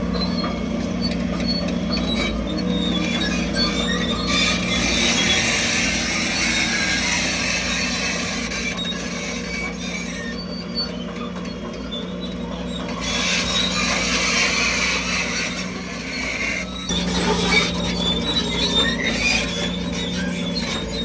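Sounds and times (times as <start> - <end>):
bulldozer tracks clattering and squealing: 0.0 - 21.0
diesel engine hum: 0.0 - 21.0.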